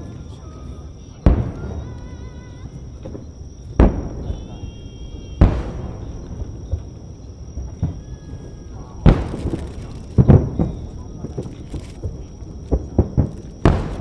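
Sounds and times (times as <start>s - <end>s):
fireworks booming: 0.0s - 14.0s
small fireworks pops: 0.0s - 14.0s.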